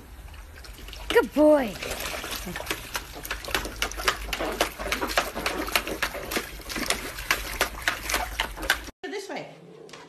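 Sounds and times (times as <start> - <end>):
trickle from garden hose: 0.0 - 8.9
water splashing in paddling pool: 0.0 - 8.9.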